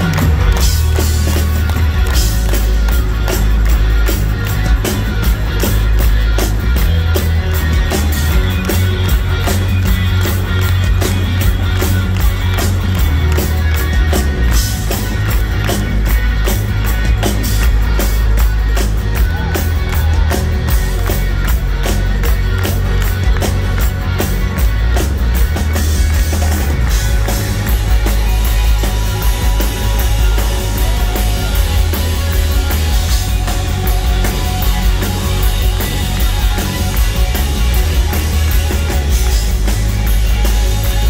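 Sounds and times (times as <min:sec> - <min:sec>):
bass guitar: 0:00.0 - 0:41.0
drums: 0:00.0 - 0:41.0
electric guitar lead: 0:00.0 - 0:41.0
keyboards: 0:00.0 - 0:41.0.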